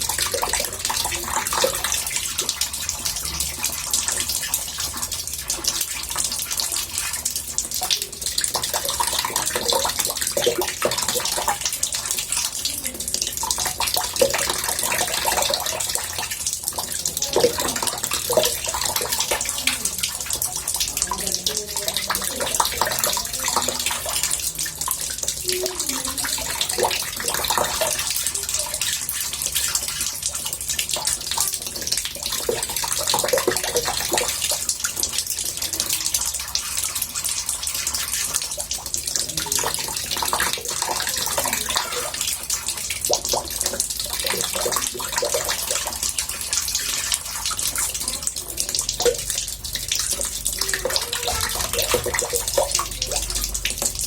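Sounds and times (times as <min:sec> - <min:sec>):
tap water running into bathtub: 0:00.0 - 0:54.0.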